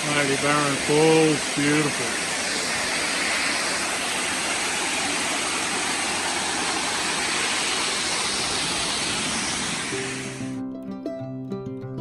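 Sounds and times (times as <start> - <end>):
waterfall pouring: 0.0 - 10.6.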